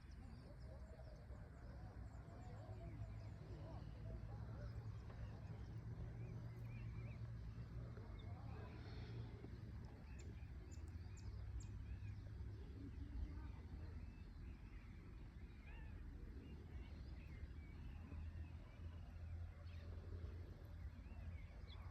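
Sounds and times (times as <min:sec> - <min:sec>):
faint birds chirping: 0:00.0 - 0:21.9.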